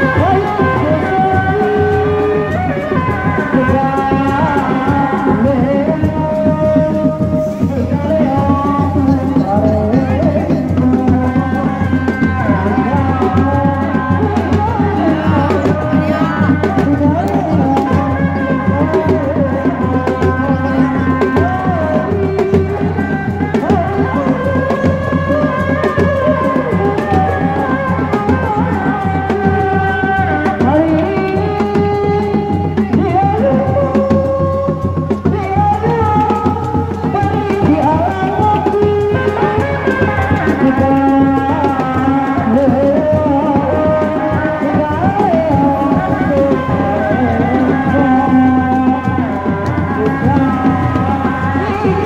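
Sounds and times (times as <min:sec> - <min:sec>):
frame drums beating: 0:00.0 - 0:52.0.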